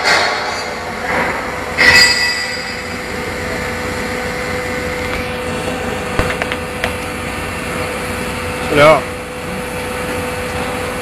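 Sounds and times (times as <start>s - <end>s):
welding machine hum and hiss: 0.0s - 11.0s.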